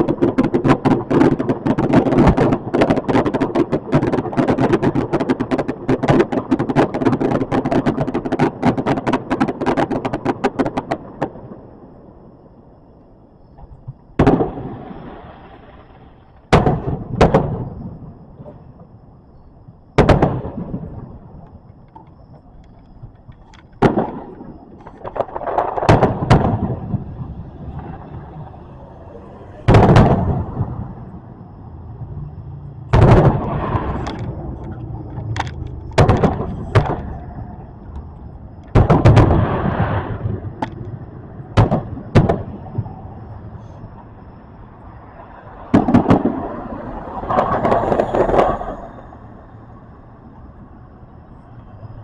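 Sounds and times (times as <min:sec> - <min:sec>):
fireworks booming: 0:00.0 - 0:51.4.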